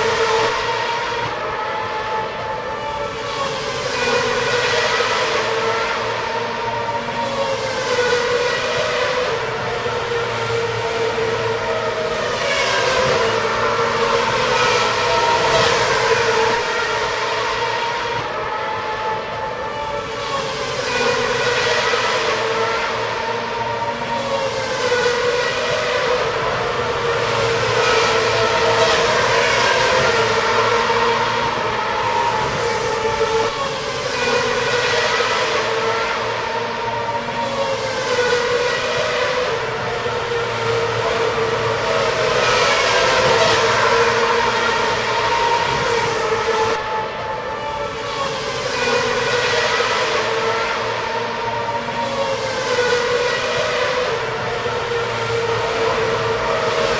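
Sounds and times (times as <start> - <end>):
racing cars passing: 0.0 - 56.9.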